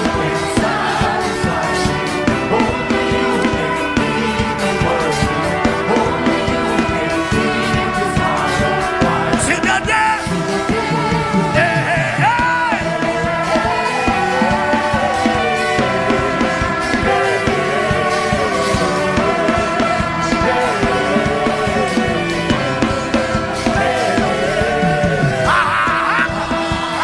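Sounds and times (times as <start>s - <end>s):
drum beat: 0.0s - 27.0s
keyboard chords: 0.0s - 27.0s
person singing: 0.0s - 27.0s
worship band music: 0.0s - 27.0s.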